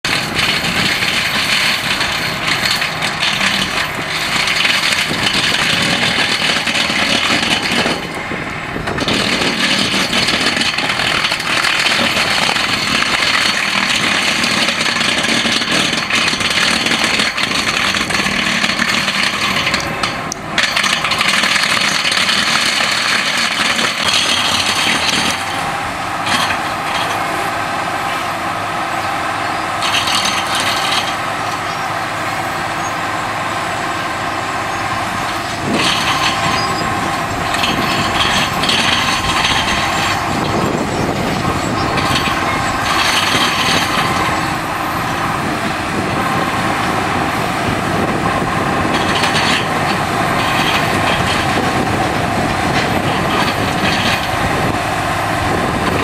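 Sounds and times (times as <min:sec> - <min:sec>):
stone crusher grinding rock: 0:00.0 - 0:28.4, 0:29.2 - 0:32.0, 0:33.7 - 0:56.0
tractor engine under load: 0:00.0 - 0:56.0.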